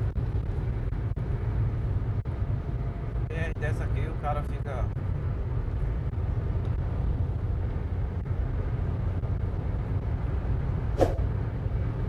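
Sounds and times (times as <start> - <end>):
car road noise from inside: 0.0 - 12.0.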